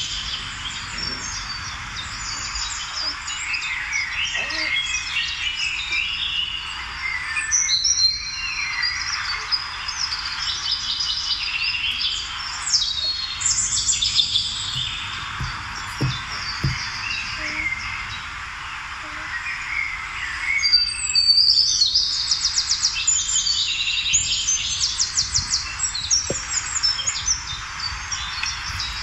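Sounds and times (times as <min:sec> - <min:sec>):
birds chirping and singing: 0:00.0 - 0:18.2, 0:23.0 - 0:29.0.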